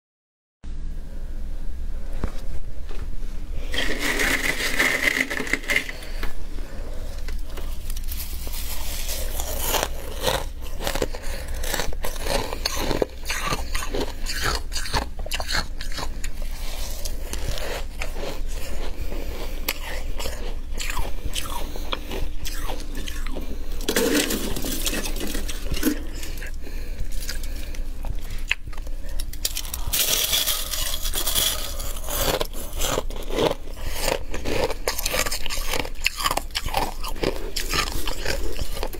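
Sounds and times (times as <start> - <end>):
faint low hum: 0.6 - 38.9
crunching freezer frost: 3.6 - 38.9.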